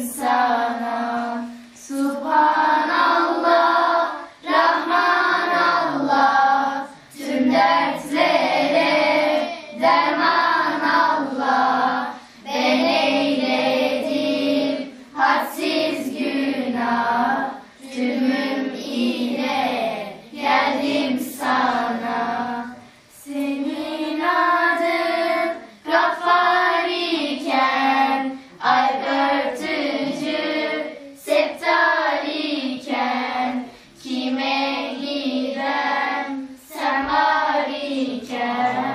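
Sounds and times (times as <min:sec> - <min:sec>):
girls singing a hymn together: 0:00.0 - 0:38.9.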